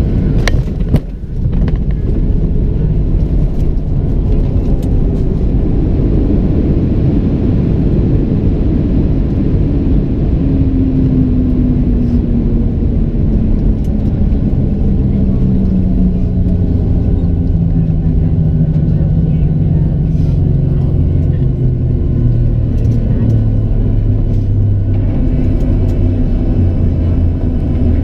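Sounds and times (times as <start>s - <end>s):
engine whine falling in pitch: 0.0s - 28.0s
jet engine cabin rumble: 0.0s - 28.0s.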